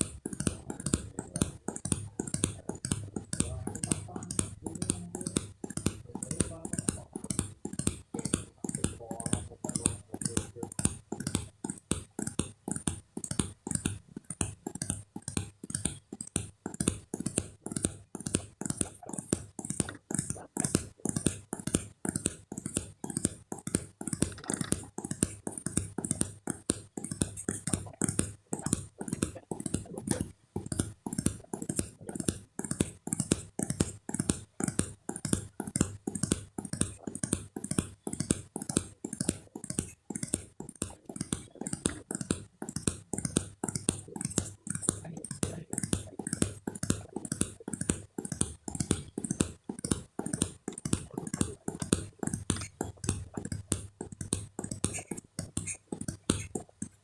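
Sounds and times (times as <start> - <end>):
rapid short clicks: 0.0 - 57.0.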